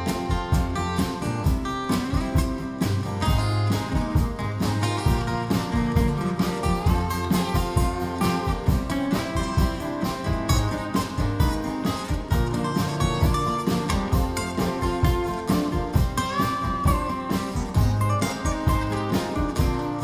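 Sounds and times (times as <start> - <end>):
acoustic guitars playing: 0.0 - 20.0.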